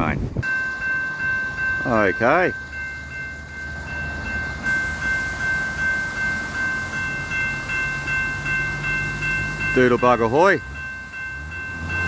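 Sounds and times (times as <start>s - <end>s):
level crossing warning bell: 0.4s - 12.0s
low engine hum: 0.4s - 12.0s.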